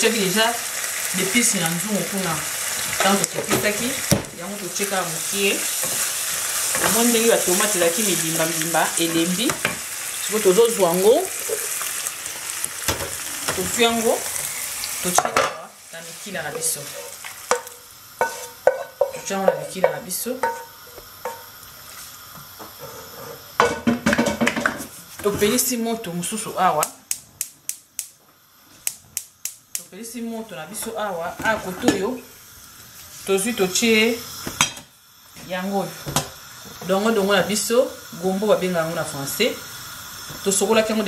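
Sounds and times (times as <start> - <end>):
sauce sizzling in a pan: 0.0 - 41.0.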